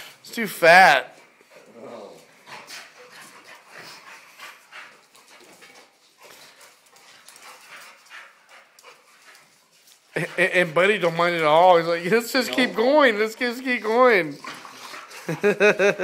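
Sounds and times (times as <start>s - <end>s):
dogs panting: 1.0s - 16.0s
dogs scuffling on tile floor: 1.1s - 16.0s.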